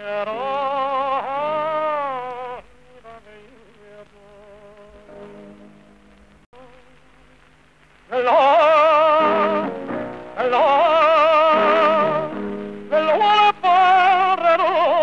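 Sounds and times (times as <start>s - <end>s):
person singing with vibrato: 0.0s - 5.8s, 8.1s - 15.0s.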